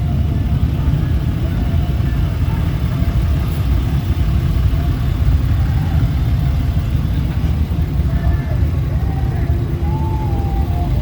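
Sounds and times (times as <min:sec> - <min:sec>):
faint voices: 0:00.0 - 0:11.0
vehicle engines rumbling: 0:00.0 - 0:11.0.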